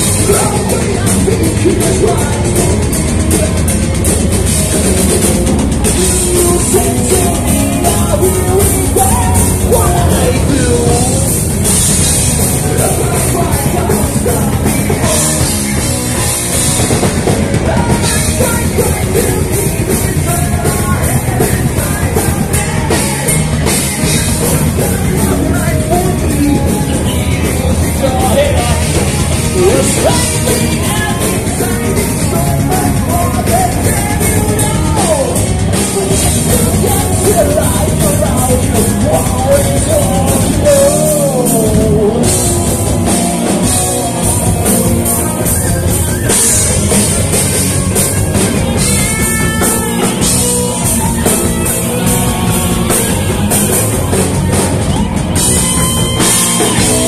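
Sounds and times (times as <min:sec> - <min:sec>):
bass guitar: 0:00.0 - 0:57.0
drum kit: 0:00.0 - 0:57.0
electric guitars: 0:00.0 - 0:57.0
person singing: 0:00.0 - 0:57.0.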